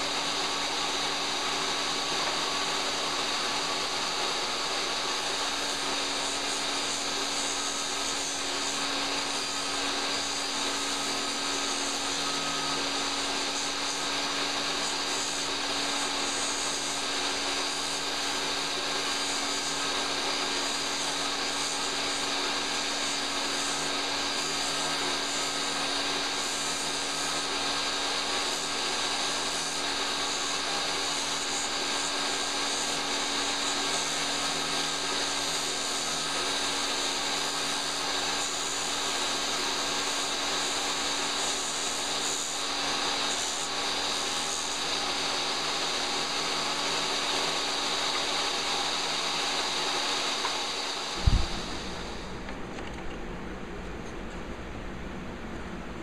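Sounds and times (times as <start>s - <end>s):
table saw cutting wood: 0.0s - 52.6s.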